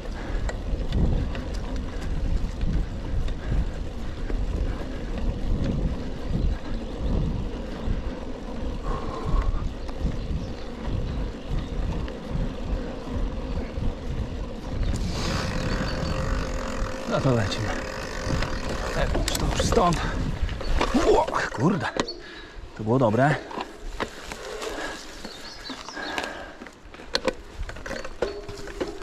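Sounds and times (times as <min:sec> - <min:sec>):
bike tyres rumbling on trail: 0:00.0 - 0:29.0
wind buffeting microphone: 0:00.0 - 0:29.0.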